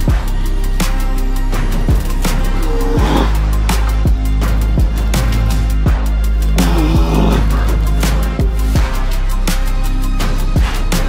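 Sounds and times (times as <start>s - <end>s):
background music with heavy bass: 0.0s - 11.0s.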